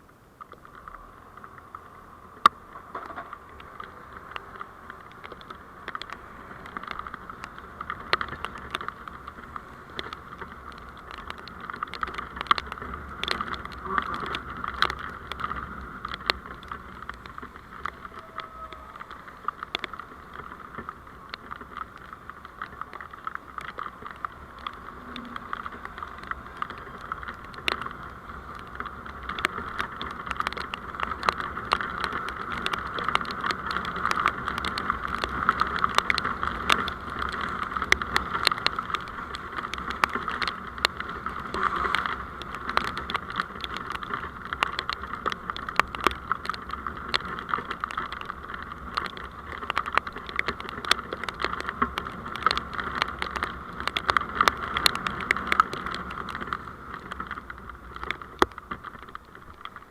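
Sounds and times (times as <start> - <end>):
sharp ticks and clicks: 0.0 - 59.9
vehicle running noise: 0.0 - 59.9.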